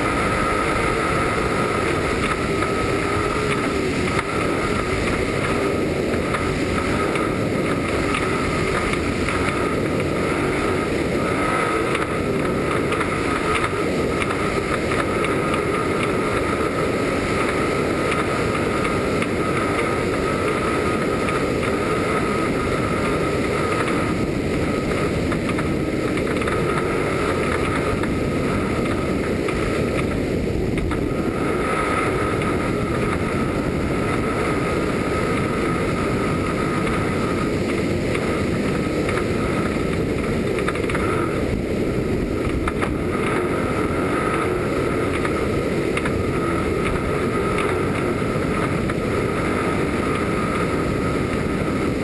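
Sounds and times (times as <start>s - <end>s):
truck driving fast on dirt road: 0.0s - 52.0s
wind rushing over microphone: 0.0s - 52.0s.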